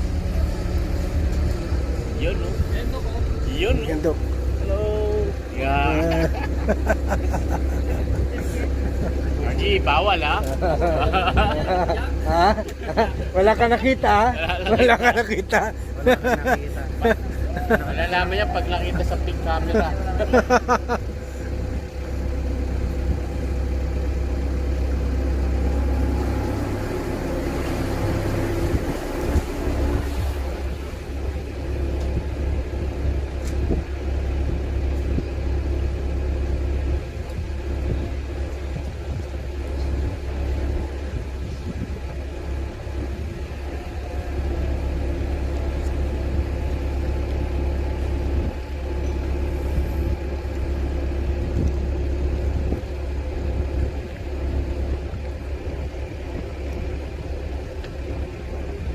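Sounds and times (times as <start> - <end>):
boat engine rumbling: 0.0 - 58.9.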